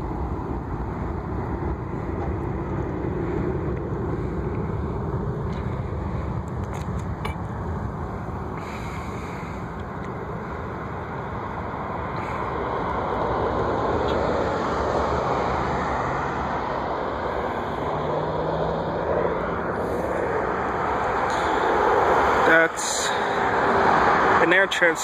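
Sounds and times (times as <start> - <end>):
jet airliner landing: 0.0 - 25.0.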